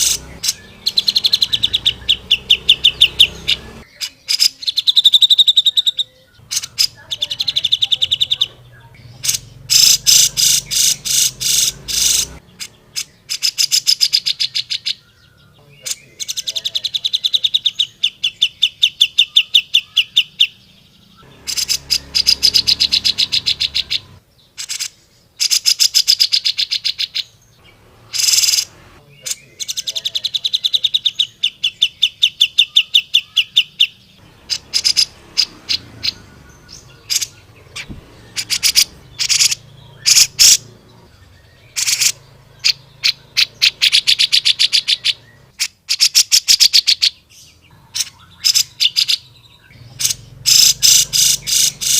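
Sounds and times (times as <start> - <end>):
bird singing rapid trills: 0.0 - 51.9.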